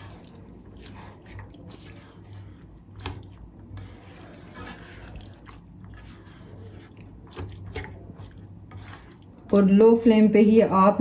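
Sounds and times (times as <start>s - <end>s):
spoon stirring in a pot: 0.0s - 11.0s.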